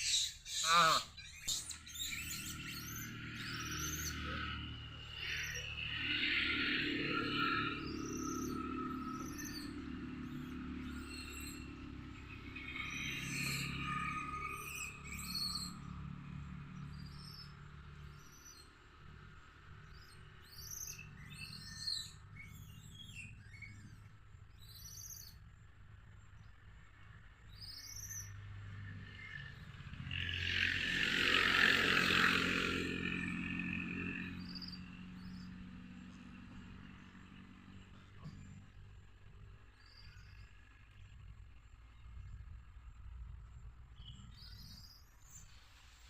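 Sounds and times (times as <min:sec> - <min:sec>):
birds chirping: 0:00.0 - 0:15.9, 0:19.7 - 0:28.4, 0:31.2 - 0:45.8.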